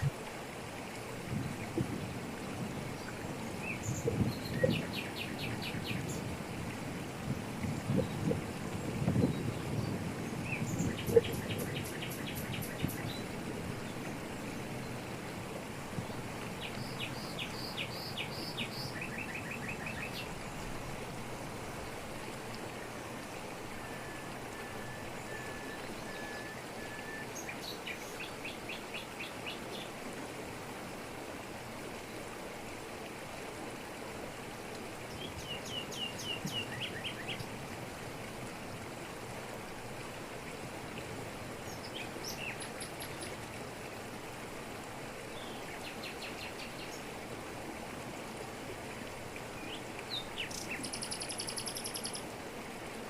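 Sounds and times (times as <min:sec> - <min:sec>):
waterfall pouring over rocks: 0:00.0 - 0:53.0.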